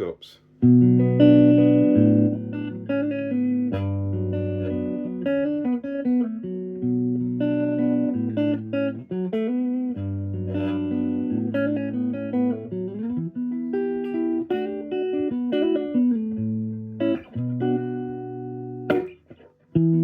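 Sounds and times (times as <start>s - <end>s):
electric guitar chords and notes: 0.6s - 20.0s.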